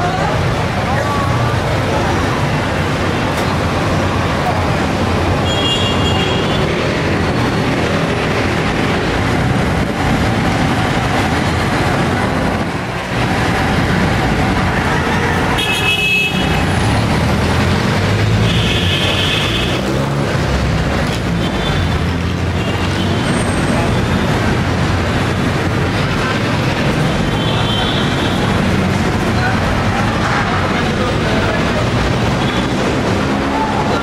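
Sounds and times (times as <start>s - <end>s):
busy road traffic: 0.0s - 34.0s.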